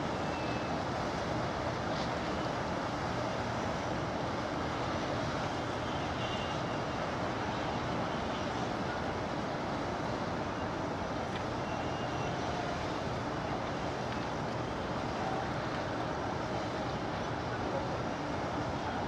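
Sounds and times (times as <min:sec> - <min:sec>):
waterfront rumble: 0:00.0 - 0:19.0.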